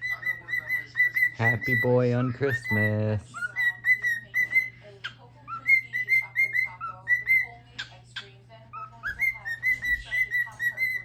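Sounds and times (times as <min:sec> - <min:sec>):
cockatiel whistling: 0:00.0 - 0:07.9, 0:08.7 - 0:11.0.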